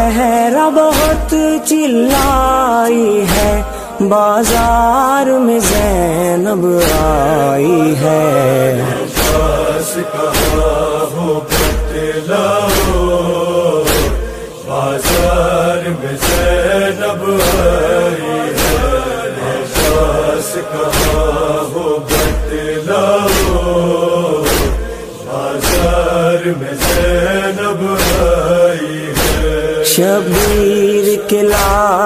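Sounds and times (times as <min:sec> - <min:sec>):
heavy thumping beat: 0:00.0 - 0:08.1, 0:08.9 - 0:30.9, 0:31.5 - 0:32.0
wordless vocal chorus chanting: 0:00.0 - 0:32.0.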